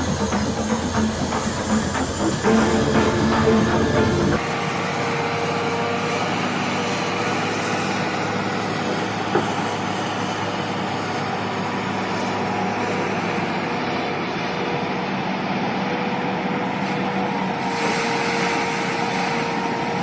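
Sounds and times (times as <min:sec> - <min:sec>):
heavy machinery running: 0:00.0 - 0:20.0.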